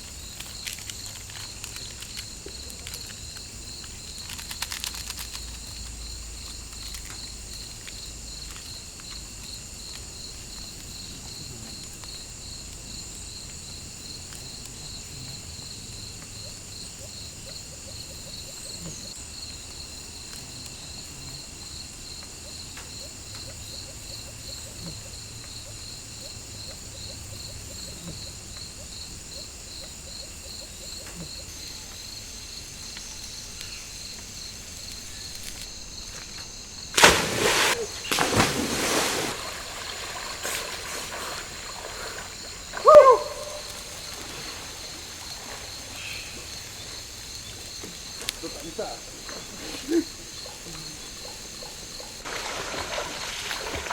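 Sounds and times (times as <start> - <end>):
high insect whine: 0.0 - 53.9
insects trilling: 0.0 - 53.9.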